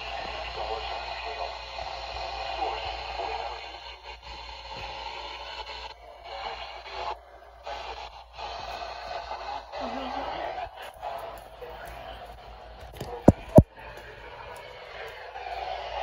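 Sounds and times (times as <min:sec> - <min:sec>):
voice over radio speaker: 0:00.0 - 0:15.4
radio hiss: 0:00.0 - 0:16.0.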